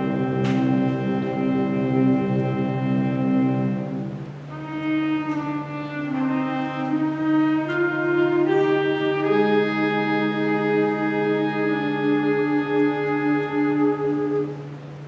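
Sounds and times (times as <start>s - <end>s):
wind band playing sustained chords: 0.0s - 15.0s.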